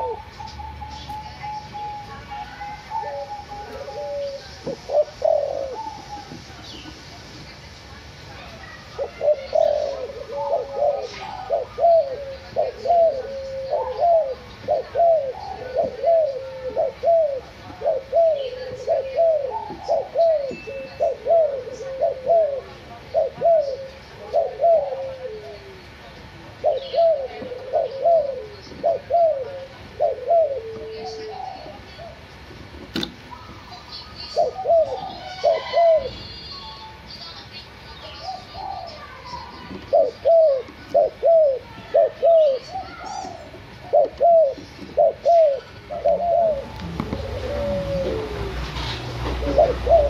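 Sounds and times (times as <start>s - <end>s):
dove cooing: 0.0s - 6.4s, 9.0s - 32.3s, 33.3s - 36.2s, 38.0s - 50.0s.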